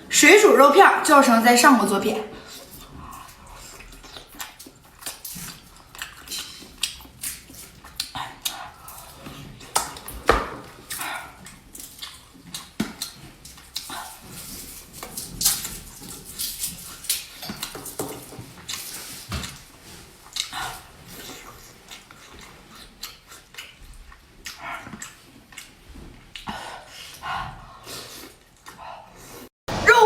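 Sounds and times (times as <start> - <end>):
person chewing with mouth smacks: 2.5 - 10.1, 10.7 - 27.2.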